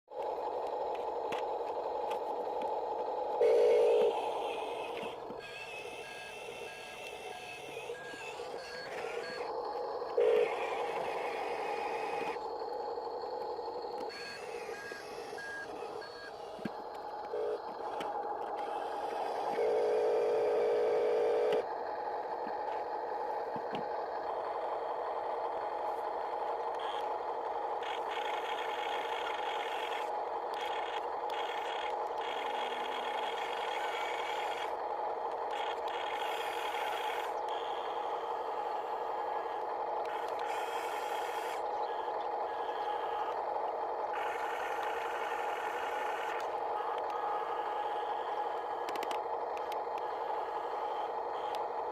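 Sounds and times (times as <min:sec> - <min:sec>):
electric motors whining: 0:00.1 - 0:51.9.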